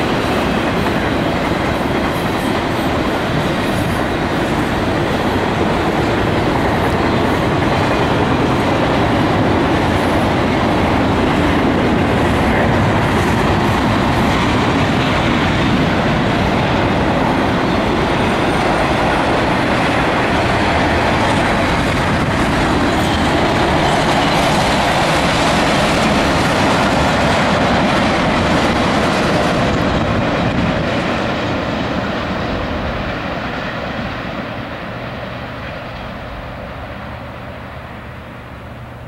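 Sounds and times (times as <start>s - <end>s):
freight train wheels on track: 0.0s - 39.0s.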